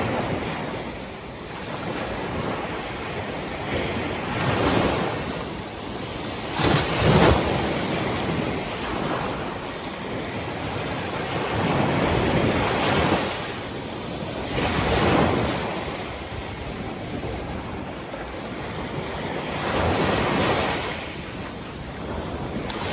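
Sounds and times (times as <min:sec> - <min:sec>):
ocean waves breaking: 0:00.0 - 0:22.9.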